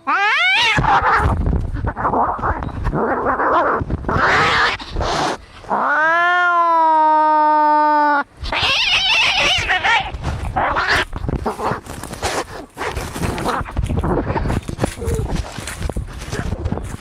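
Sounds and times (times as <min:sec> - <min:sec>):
cats fighting and yowling: 0:00.0 - 0:16.8.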